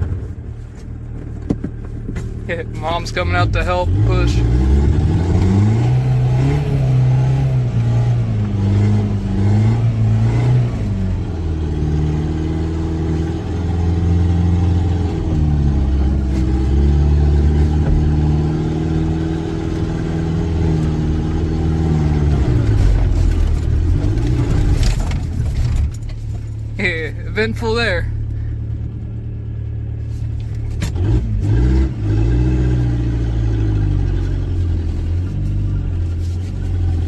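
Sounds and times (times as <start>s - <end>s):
diesel car engine revving: 0.0s - 37.0s.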